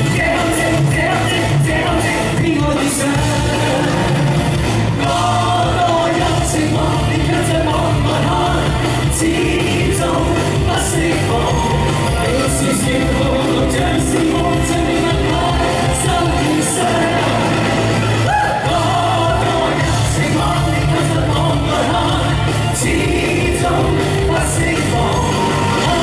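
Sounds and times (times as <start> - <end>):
band playing: 0.0 - 26.0
drums and bass dance beat: 0.0 - 26.0
two singers singing a duet: 0.0 - 26.0.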